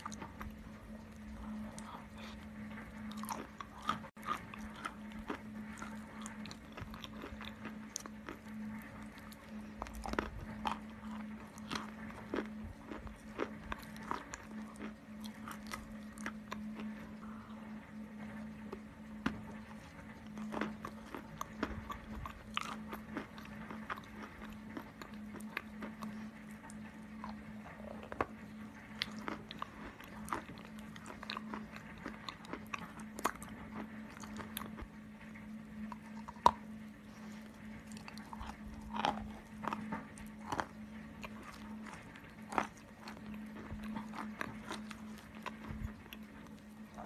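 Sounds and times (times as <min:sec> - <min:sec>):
chewing crunchy chalk: 0:00.0 - 0:34.9, 0:35.8 - 0:47.0
faint low hum: 0:00.0 - 0:47.0.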